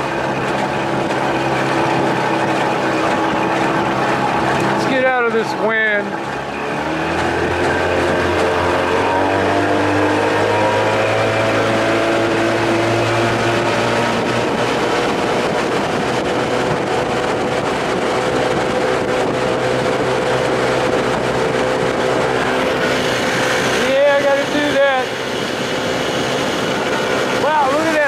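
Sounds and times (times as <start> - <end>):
outboard motor running: 0.0 - 28.0
rushing water: 0.0 - 28.0
wind: 0.0 - 28.0.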